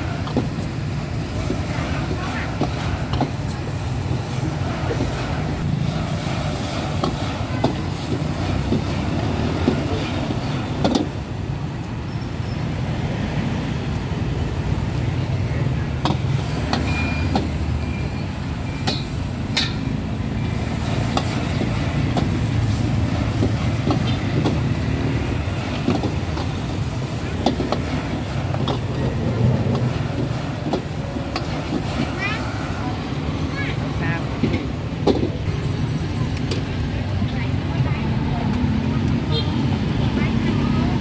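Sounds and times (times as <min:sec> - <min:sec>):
rumble of passing vehicles: 0:00.0 - 0:41.0.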